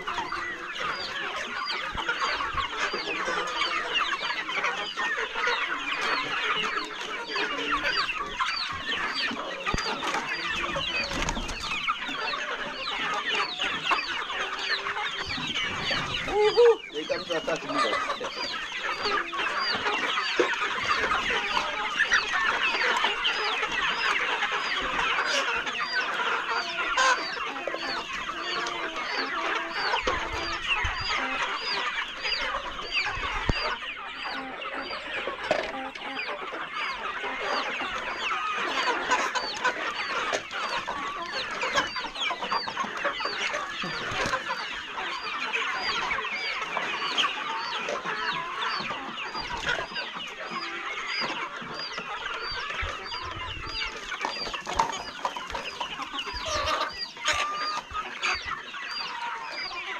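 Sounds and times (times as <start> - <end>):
hens clucking: 0.0 - 59.9.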